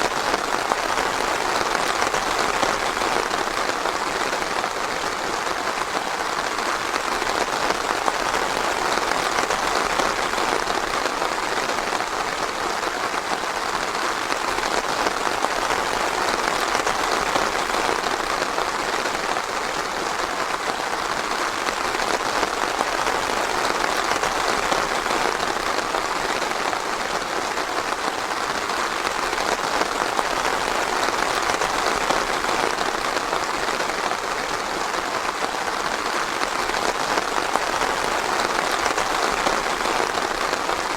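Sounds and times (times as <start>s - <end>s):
rain on leaves and ground: 0.0s - 40.9s.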